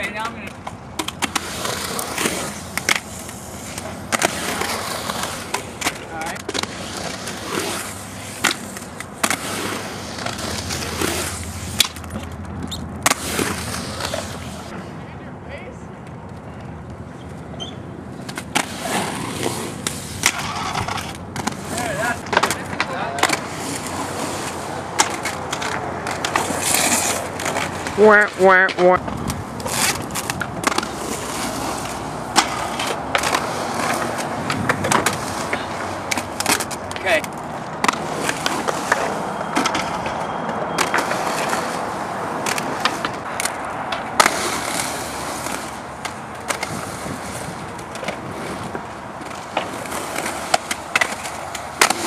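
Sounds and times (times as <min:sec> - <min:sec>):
skates clacking on concrete: 0:00.0 - 0:14.9, 0:15.5 - 0:52.0
skate wheels rolling on concrete: 0:00.0 - 0:52.0.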